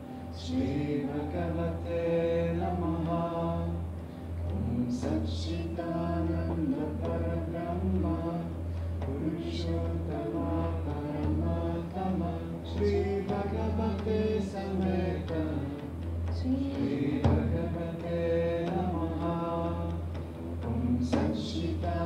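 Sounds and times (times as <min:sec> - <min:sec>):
person chanting: 0:00.0 - 0:20.1.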